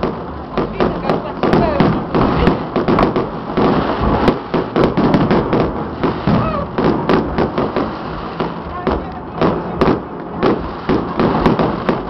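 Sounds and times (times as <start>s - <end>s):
firecrackers banging and popping: 0.0s - 12.0s.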